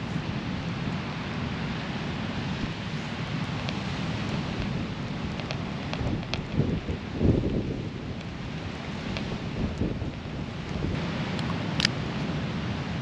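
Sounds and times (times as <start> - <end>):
wind and rain: 0.0 - 13.0
wind gust: 0.0 - 13.0.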